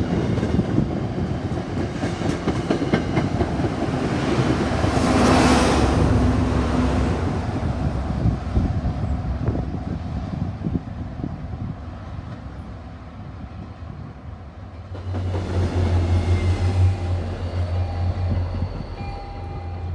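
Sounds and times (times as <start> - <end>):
train rumbling on tracks: 0.0 - 19.9.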